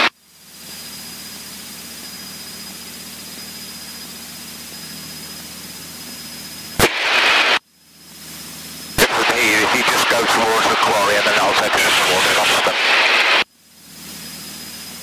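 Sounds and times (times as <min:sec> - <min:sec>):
faint high whine: 0:00.0 - 0:15.0
light aircraft cockpit drone: 0:00.0 - 0:15.0.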